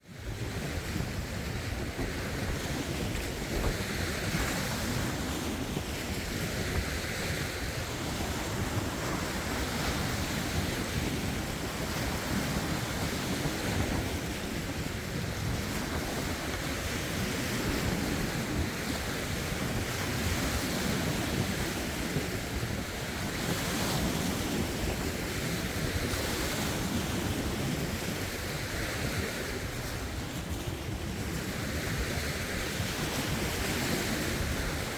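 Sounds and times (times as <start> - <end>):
wind on microphone: 0.0 - 34.9
waves washing over rocks: 0.2 - 34.9.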